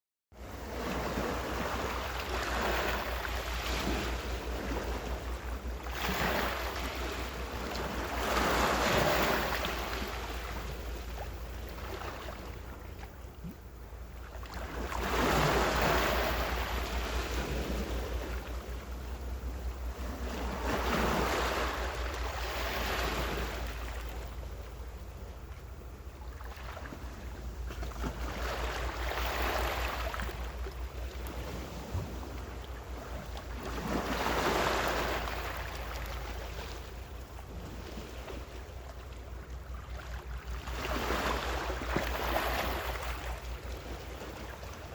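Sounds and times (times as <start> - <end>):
ocean waves washing ashore: 0.4 - 44.9
steady low rumble: 0.4 - 44.9.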